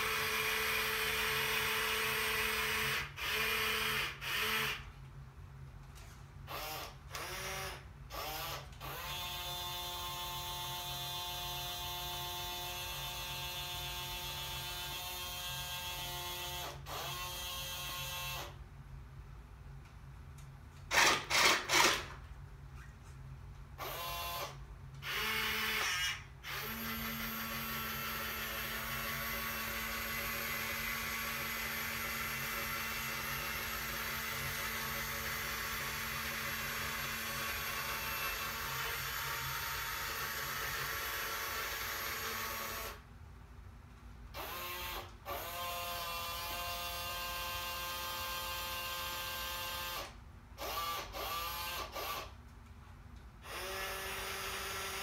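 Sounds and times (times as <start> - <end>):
toy motor and gears whirring: 0.0 - 4.9, 6.5 - 18.6, 20.9 - 22.1, 23.8 - 43.0, 44.3 - 52.4, 53.4 - 55.0.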